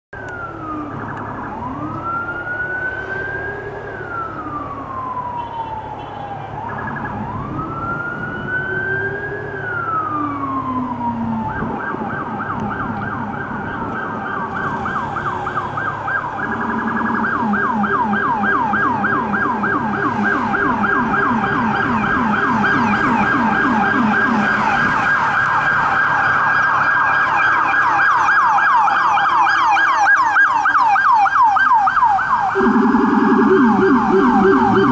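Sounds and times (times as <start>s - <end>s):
lower siren tone: 0.2s - 34.9s
siren wailing and yelping: 0.2s - 34.9s.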